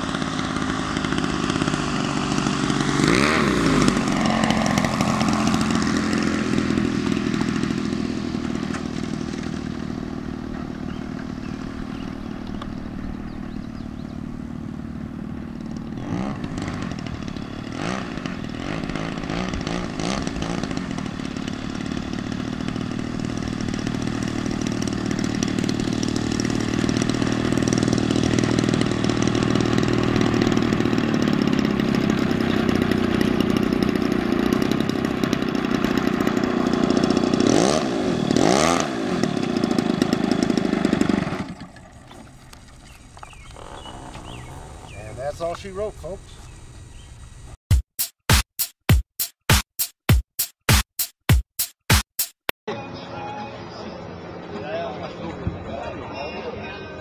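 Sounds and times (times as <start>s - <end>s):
engine throttle blips: 0.0s - 47.6s
model airplane engine idling: 0.0s - 47.6s.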